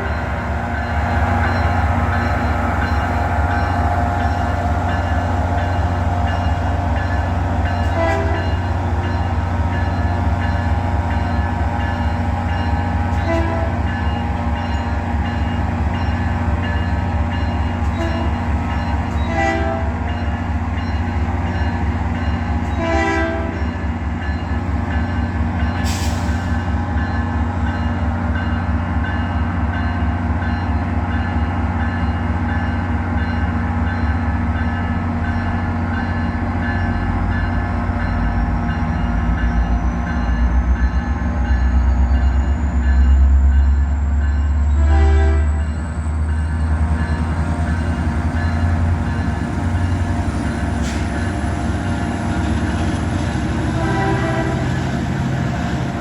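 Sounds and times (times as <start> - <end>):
train droning: 0.0 - 56.0.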